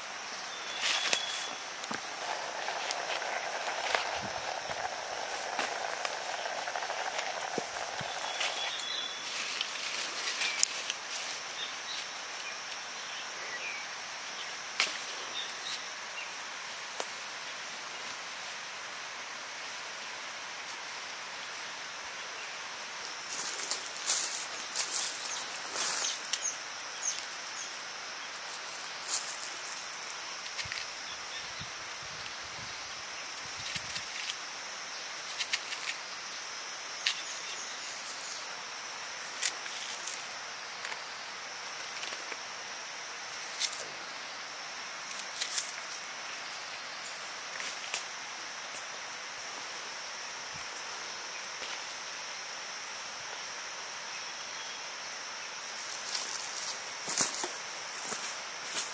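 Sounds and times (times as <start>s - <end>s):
insects chirring: 0.0s - 58.9s.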